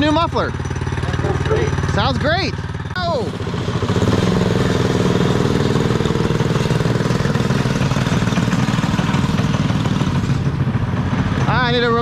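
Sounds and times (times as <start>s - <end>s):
minibike engine running: 0.0s - 12.0s.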